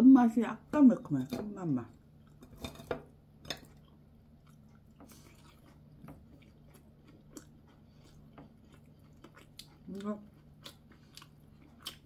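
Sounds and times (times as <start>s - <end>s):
person chewing food: 1.9s - 12.0s.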